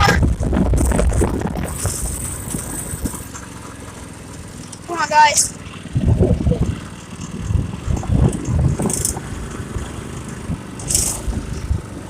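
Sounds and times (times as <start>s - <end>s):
small engine running unevenly: 0.0s - 12.0s
vehicle pulling through water: 0.1s - 12.0s.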